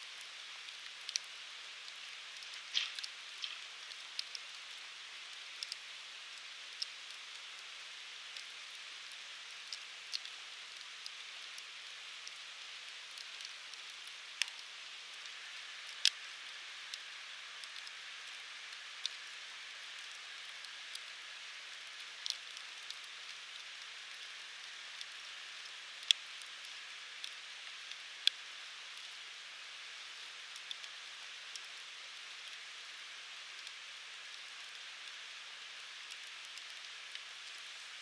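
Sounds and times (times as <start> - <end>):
firewood burning with crackles: 0.1 - 38.0
sharp crackles and pops: 0.1 - 38.0.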